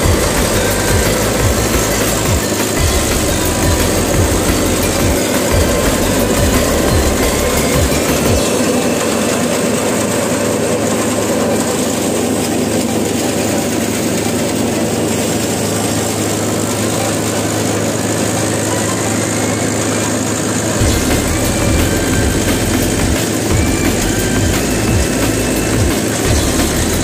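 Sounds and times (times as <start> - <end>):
thresher mechanical hum: 0.0 - 27.0
tractor engine rumble: 0.0 - 27.0.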